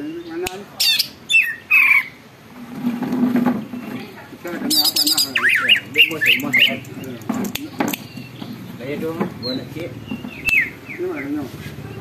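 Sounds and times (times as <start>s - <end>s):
bird singing: 0.0s - 2.2s, 3.5s - 12.0s.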